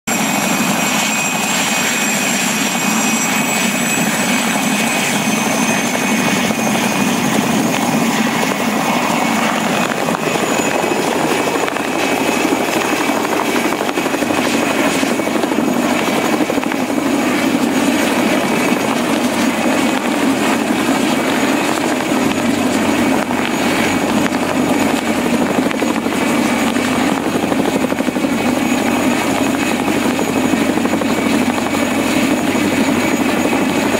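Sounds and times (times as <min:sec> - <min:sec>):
helicopter engines and rotor: 0:00.1 - 0:33.9
high turbine whine: 0:00.1 - 0:33.9.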